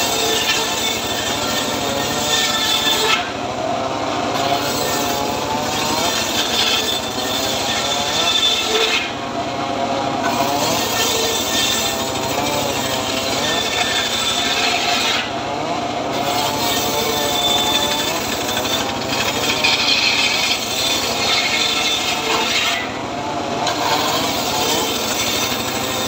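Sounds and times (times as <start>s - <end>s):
circular saw cutting wood: 0.0s - 26.0s.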